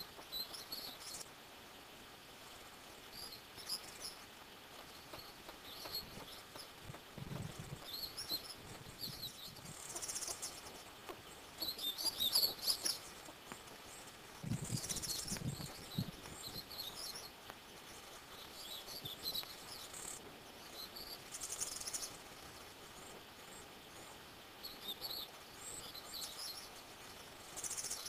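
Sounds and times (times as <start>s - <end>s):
high thin bird chirps: 0.0s - 1.3s, 3.1s - 28.0s.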